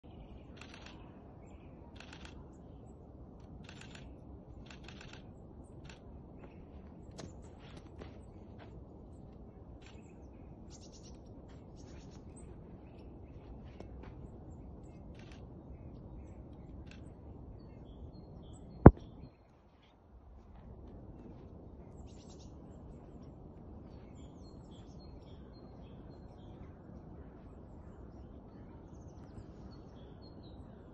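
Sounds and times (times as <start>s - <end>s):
small birds chirping: 0.0s - 20.0s, 21.4s - 30.9s
wind rumble on microphone: 0.0s - 30.9s.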